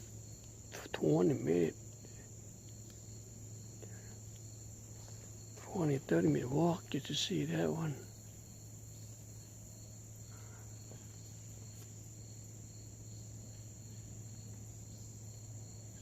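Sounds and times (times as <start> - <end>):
low even hum: 0.0 - 16.0.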